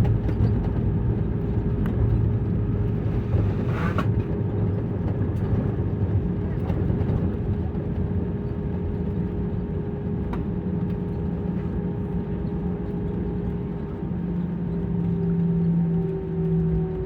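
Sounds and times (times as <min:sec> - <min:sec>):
machinery engine drone: 0:00.0 - 0:17.0.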